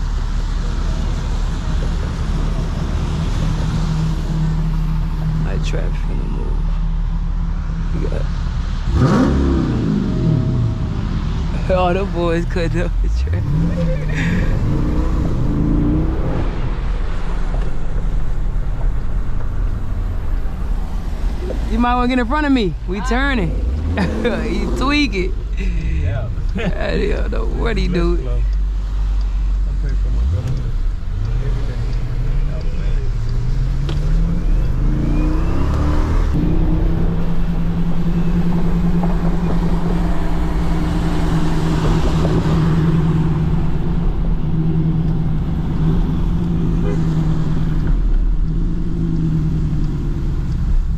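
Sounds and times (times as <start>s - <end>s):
car engine rumble inside cabin: 0.0s - 50.9s
road noise: 0.0s - 50.9s.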